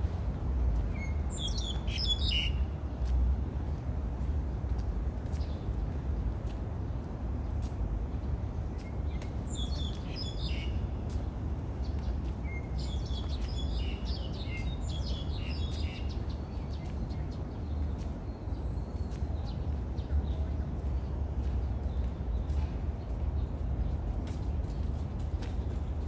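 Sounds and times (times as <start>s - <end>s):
small songbirds chirping: 0.8s - 3.1s, 5.2s - 26.0s.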